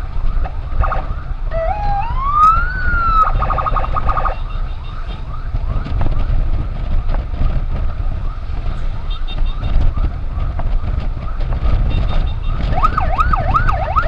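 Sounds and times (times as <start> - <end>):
wind and road noise: 0.0 - 14.0
electronic emergency siren: 0.4 - 14.0.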